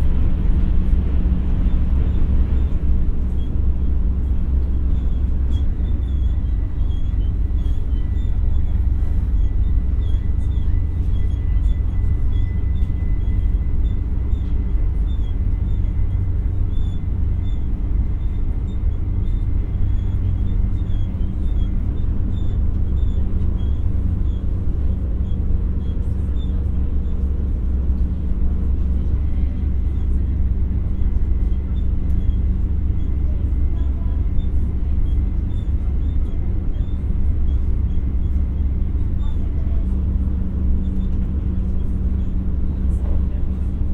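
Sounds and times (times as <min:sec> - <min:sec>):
electric train low rumble: 0:00.0 - 0:43.9.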